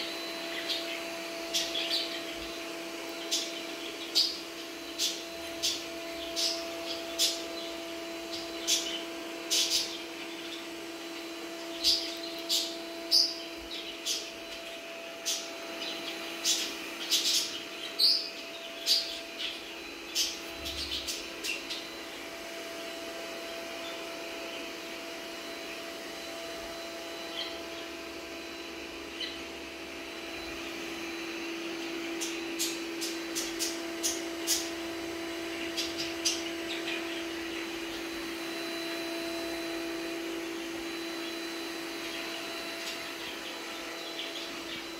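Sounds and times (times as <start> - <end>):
robot vacuum cleaner humming: 0.0 - 44.9.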